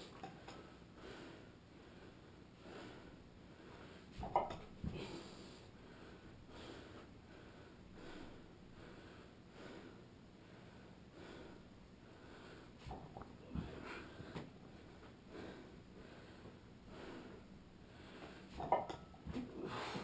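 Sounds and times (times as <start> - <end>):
man breathing rhythmically: 0.0 - 20.0.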